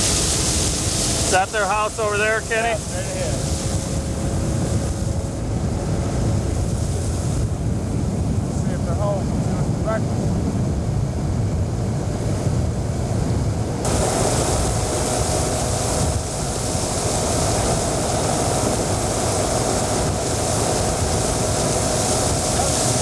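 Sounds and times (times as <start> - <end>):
faint steady whine: 0.0 - 23.0
outboard motor running: 0.0 - 23.0
wind buffeting microphone: 0.0 - 23.0.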